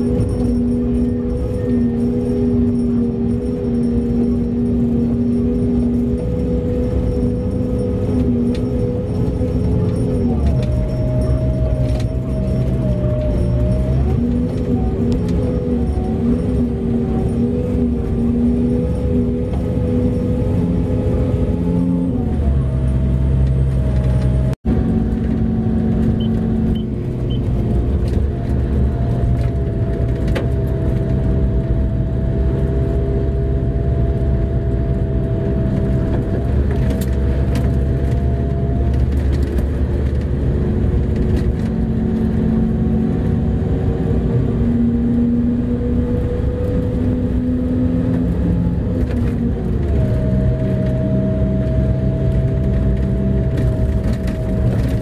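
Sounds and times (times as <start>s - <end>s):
truck engine drone from cab: 0.0s - 55.0s.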